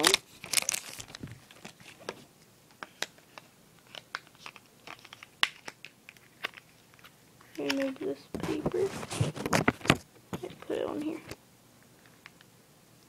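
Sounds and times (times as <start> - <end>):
handling noise of phone parts: 0.0 - 10.6.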